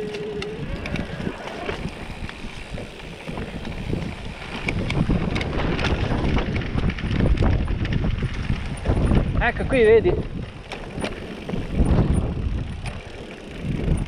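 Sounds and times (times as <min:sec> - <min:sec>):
bike clicking and rattling: 0:00.0 - 0:14.0
tyres rolling over dirt and leaves: 0:00.0 - 0:14.0
wind on microphone: 0:00.0 - 0:14.0.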